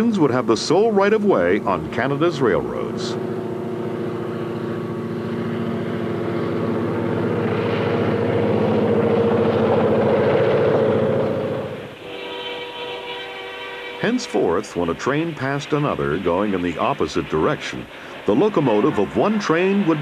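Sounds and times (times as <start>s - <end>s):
diesel locomotives droning: 0.0s - 20.0s.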